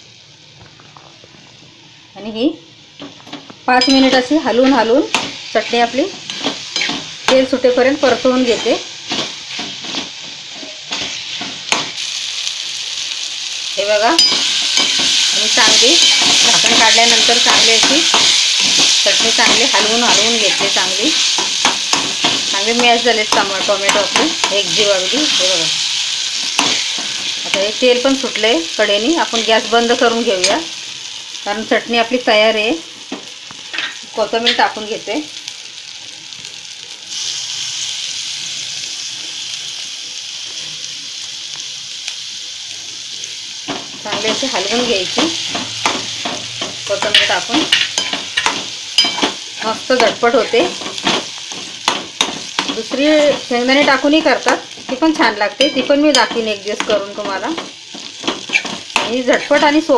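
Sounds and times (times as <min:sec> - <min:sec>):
oil sizzling: 0:00.0 - 0:59.9.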